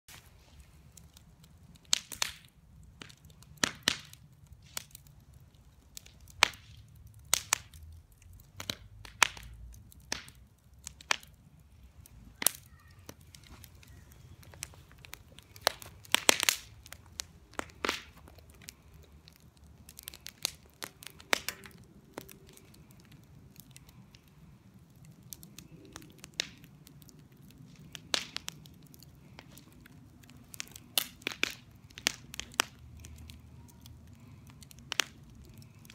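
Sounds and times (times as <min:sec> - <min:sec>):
firecrackers popping: 0:00.1 - 0:05.1, 0:05.9 - 0:35.9.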